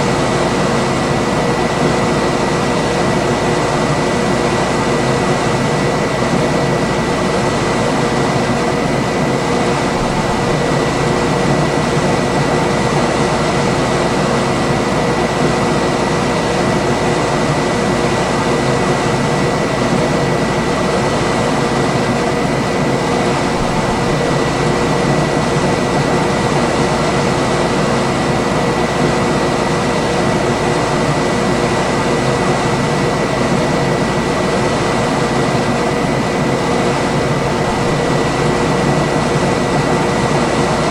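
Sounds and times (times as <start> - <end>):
air conditioner running: 0.0 - 40.9.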